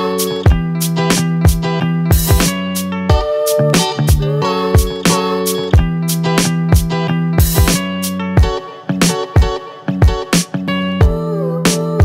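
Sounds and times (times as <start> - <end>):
plucked guitar notes: 0.0 - 12.0
steady drum beat: 0.5 - 11.2.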